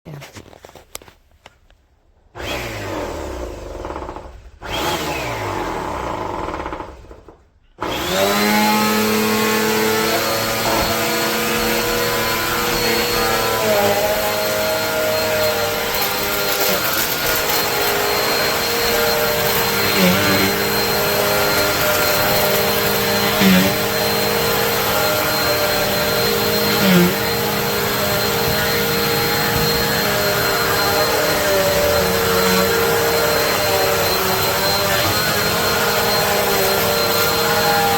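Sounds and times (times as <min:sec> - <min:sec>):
vacuum cleaner whining: 0:02.3 - 0:37.9.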